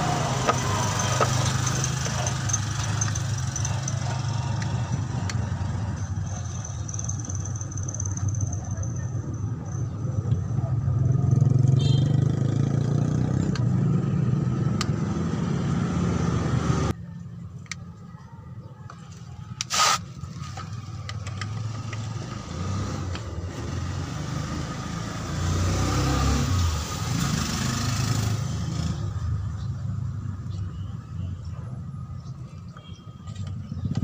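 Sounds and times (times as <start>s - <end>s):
motor vehicle rumble: 0.0s - 34.0s.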